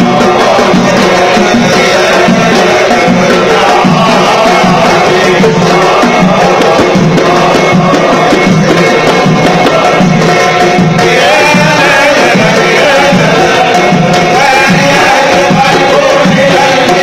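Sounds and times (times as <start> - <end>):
frame drums beating fast rhythm: 0.0 - 17.0
men chanting: 0.0 - 17.0.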